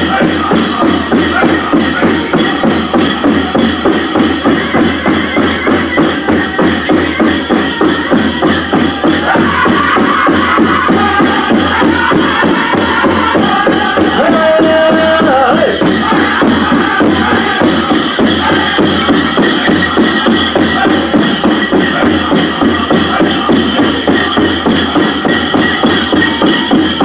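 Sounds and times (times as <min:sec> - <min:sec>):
big drum steady beat: 0:00.0 - 0:27.0
singers chanting: 0:00.0 - 0:27.0.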